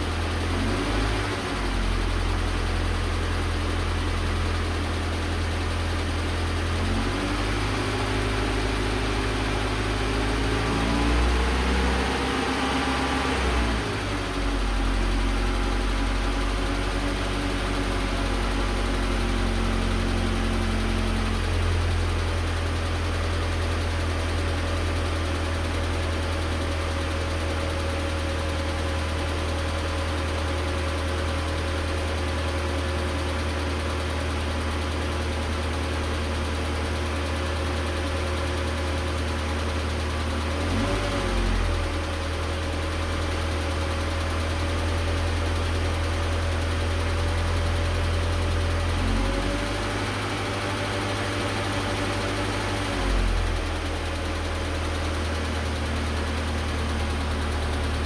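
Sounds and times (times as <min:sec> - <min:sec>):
engine idling and revving: 0:00.0 - 0:58.0.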